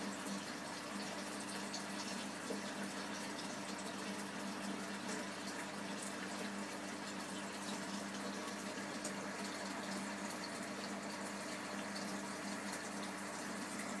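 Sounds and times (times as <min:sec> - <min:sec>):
aquarium pump humming: 0:00.0 - 0:14.0
aquarium water bubbling: 0:00.0 - 0:14.0.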